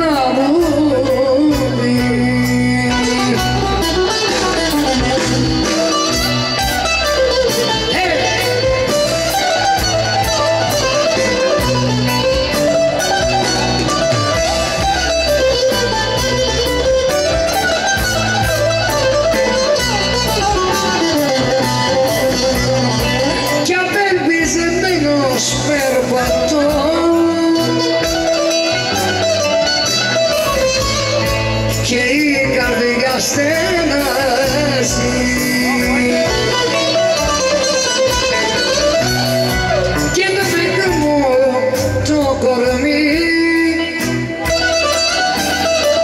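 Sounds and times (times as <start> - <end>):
bass: 0.0 - 46.0
bouzouki and guitar melody: 0.0 - 46.0
keyboard: 0.0 - 46.0
steady drum beat: 1.6 - 46.0.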